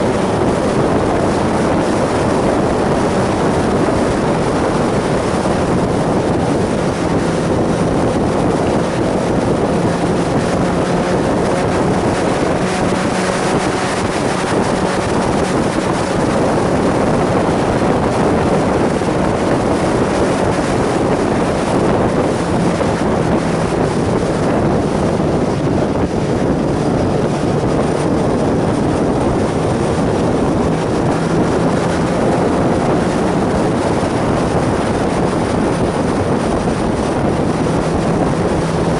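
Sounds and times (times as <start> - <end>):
motorcycle engine: 0.0 - 38.9
wind rush on microphone: 0.0 - 38.9.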